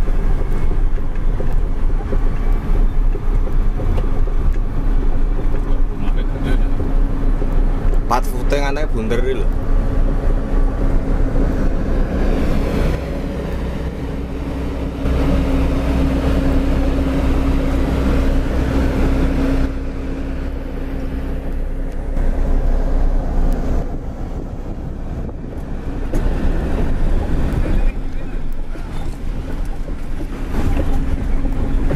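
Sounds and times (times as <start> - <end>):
heavy diesel machinery running: 0.0 - 31.9
wind buffeting microphone: 0.0 - 31.9.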